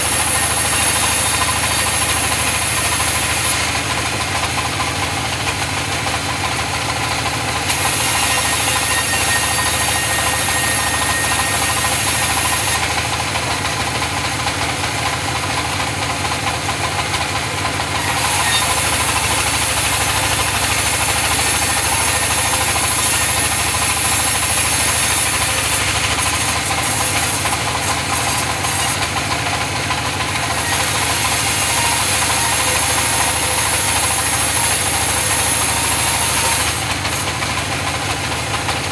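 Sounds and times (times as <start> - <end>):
sawmill saw cutting timber: 0.0 - 38.9.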